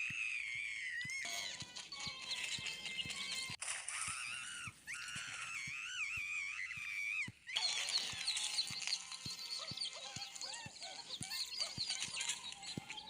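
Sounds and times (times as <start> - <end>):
high chirping calls: 1.0 - 13.0.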